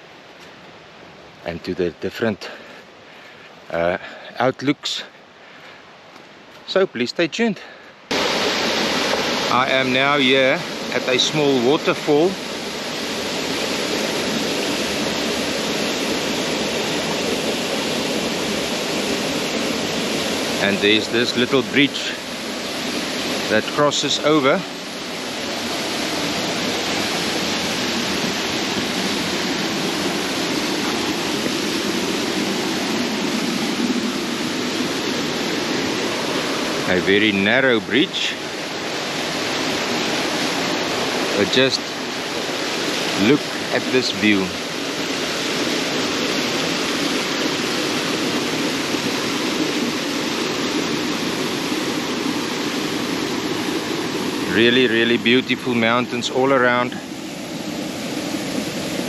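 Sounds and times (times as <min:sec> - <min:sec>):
small waterfall rushing: 0:00.0 - 0:59.0.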